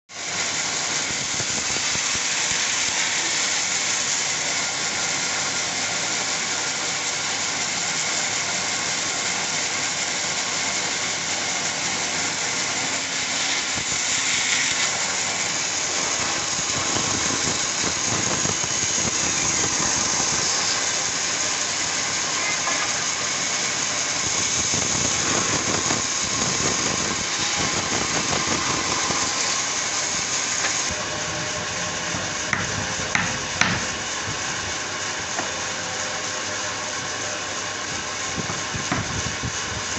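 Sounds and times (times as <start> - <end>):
machine running: 0.2 - 39.9.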